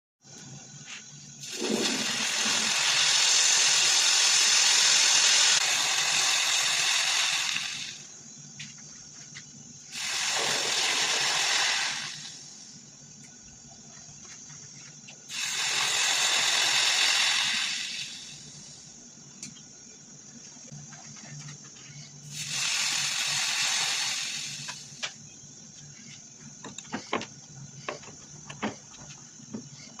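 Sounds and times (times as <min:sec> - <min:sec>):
loud steady hiss: 0:00.3 - 0:20.2, 0:22.2 - 0:30.0.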